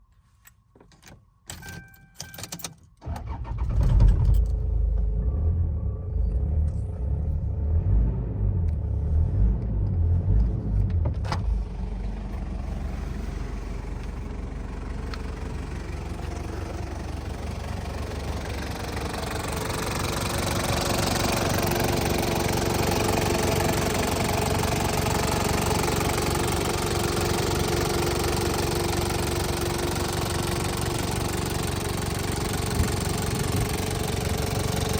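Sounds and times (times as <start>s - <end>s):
car engine starting and idling: 3.0s - 34.9s.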